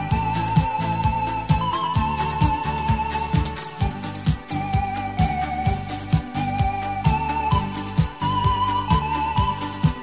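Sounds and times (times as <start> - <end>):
wavering lead tone: 0.0 - 10.0.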